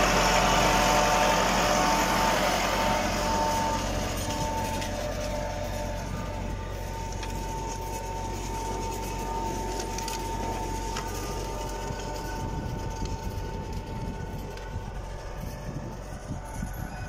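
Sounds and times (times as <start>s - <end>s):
disc harrow cutting soil: 0.0s - 17.0s
thin steady whine: 0.0s - 17.0s
tractor running under load: 0.0s - 17.0s.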